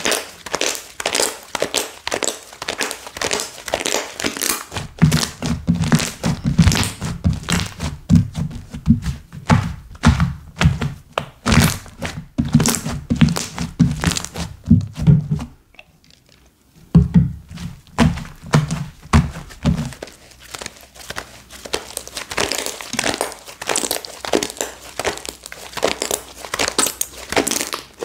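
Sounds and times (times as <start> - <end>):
slime squishing and popping: 0.0 - 16.3, 17.9 - 28.0.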